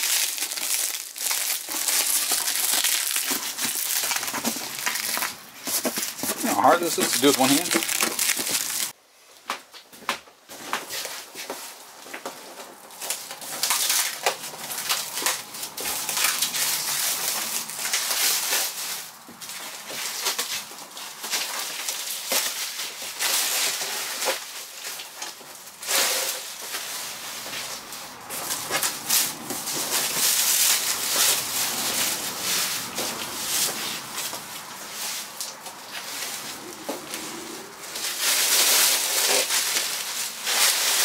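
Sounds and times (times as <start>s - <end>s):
plastic wrap crinkling: 0.0s - 9.0s, 10.6s - 41.0s.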